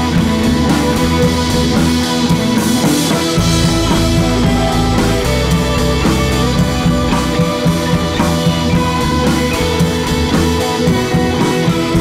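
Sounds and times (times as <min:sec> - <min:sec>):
rock music with guitar and drums: 0:00.0 - 0:12.0.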